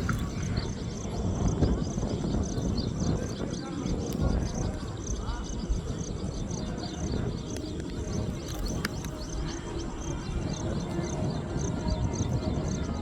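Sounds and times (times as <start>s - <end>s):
low rumbling noise: 0.0s - 13.0s
small birds chirping: 0.0s - 13.0s.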